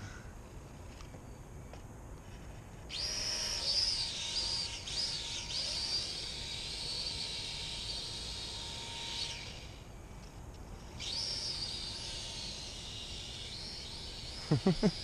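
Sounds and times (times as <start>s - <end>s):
propeller motors whining: 2.3s - 15.0s.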